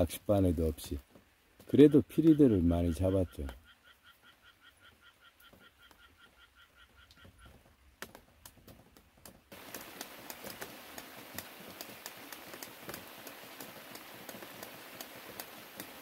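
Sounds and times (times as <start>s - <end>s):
rain drops ticking: 0.0s - 16.0s
steady rain patter: 0.0s - 16.0s.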